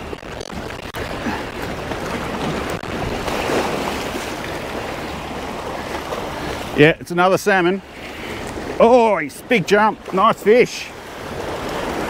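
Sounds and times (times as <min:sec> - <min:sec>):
sea water surging against rocks: 0:00.0 - 0:12.0.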